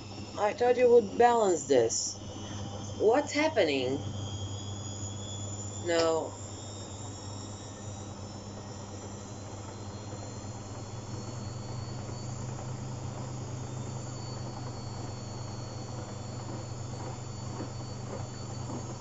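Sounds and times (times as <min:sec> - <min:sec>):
washing machine hum and whine: 0:00.0 - 0:19.0.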